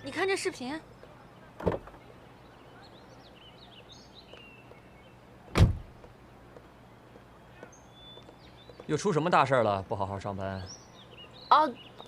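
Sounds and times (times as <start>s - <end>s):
faint bird chirps: 0.0s - 5.5s, 6.2s - 12.0s.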